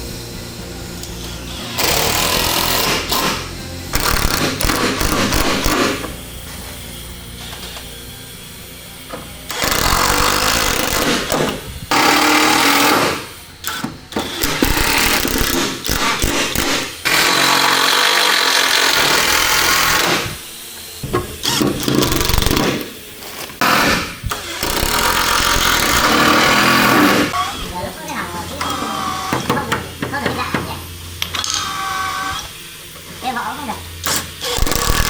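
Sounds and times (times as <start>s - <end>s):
handheld power tool running: 0.0s - 35.0s.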